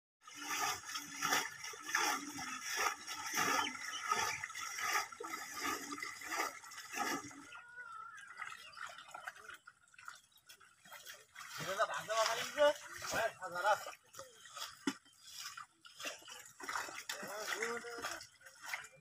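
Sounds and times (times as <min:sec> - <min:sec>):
muddy water splashing: 0:00.2 - 0:19.0.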